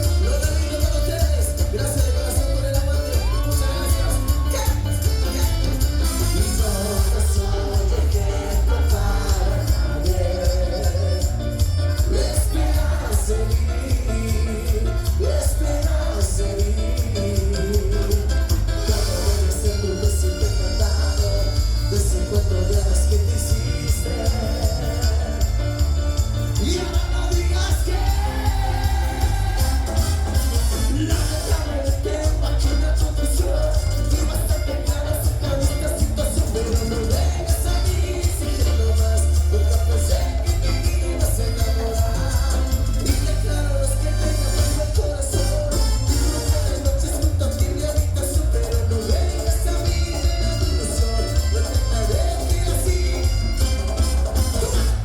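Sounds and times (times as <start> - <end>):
heavy bass beat: 0.0 - 55.0
latin dance band music: 0.0 - 55.0
person singing: 0.0 - 55.0.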